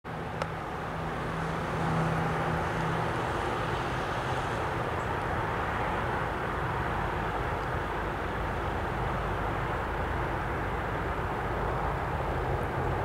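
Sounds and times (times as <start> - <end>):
diesel locomotive engine drone: 0.1 - 13.0
wash of noise: 0.1 - 13.0.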